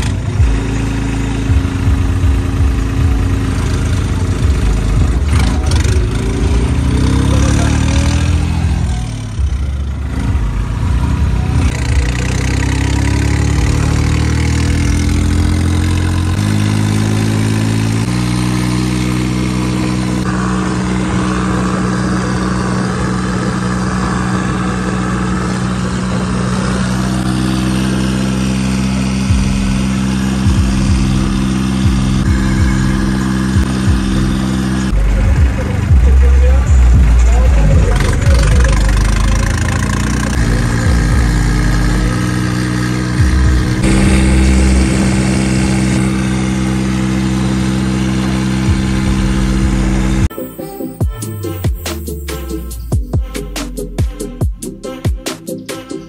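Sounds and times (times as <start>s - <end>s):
tractor diesel engine running: 0.0s - 50.3s.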